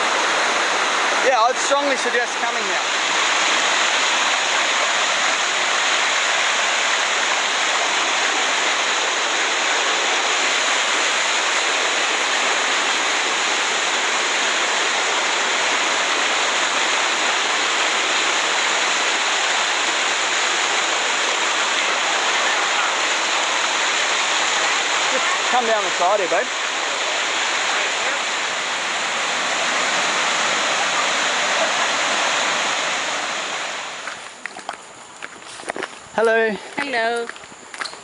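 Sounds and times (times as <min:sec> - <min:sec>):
waterfall rushing over rock: 0:00.0 - 0:34.4.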